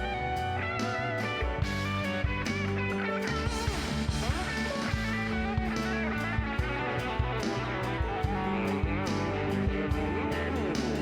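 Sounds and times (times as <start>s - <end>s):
bass line: 0.0s - 11.0s
guitar band music: 0.0s - 11.0s
steady drum beat: 0.0s - 11.0s.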